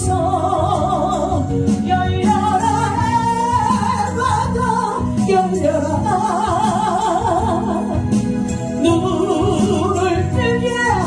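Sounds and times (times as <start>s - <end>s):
instrumental accompaniment: 0.0s - 11.0s
woman singing with vibrato: 0.0s - 11.0s.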